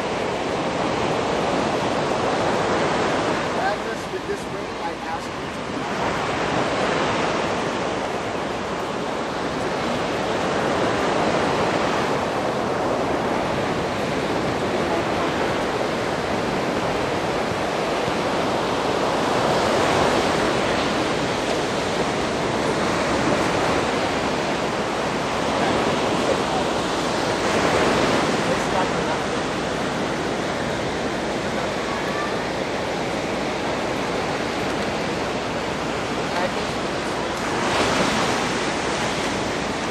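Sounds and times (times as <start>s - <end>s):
surf washing onto beach: 0.0s - 39.9s.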